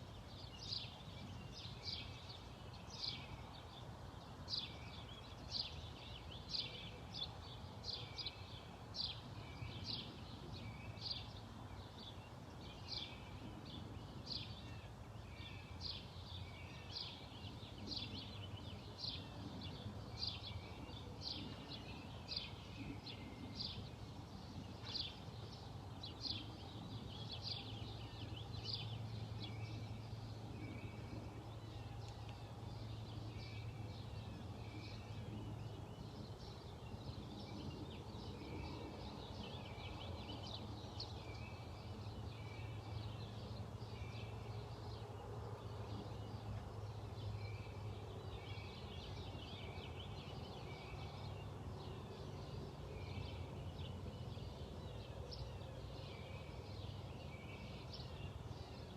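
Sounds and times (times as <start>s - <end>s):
birds chirping and singing: 0.0s - 58.9s
faint low hum: 0.0s - 58.9s.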